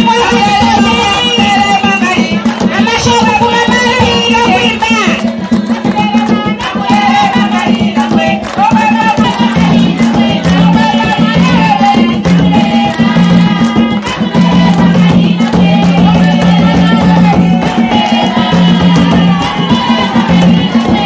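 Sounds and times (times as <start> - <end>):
women singing: 0.0 - 21.0
wooden hand drums: 0.0 - 21.0.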